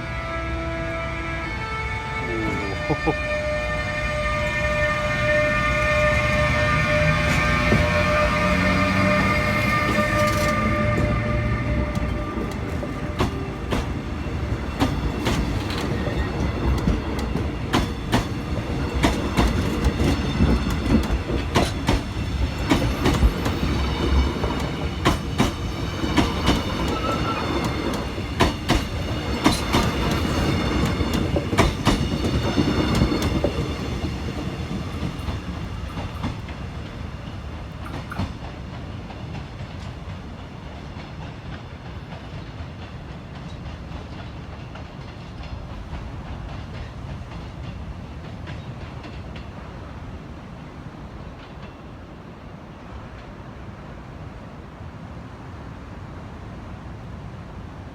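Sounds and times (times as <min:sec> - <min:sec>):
train rumble: 0:00.0 - 0:57.9.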